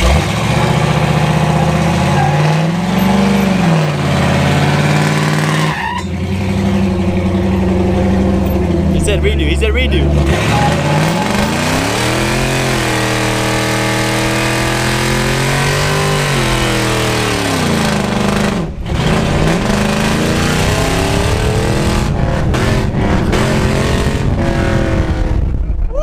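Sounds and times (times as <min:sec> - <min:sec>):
truck engine revving: 0:00.0 - 0:25.8.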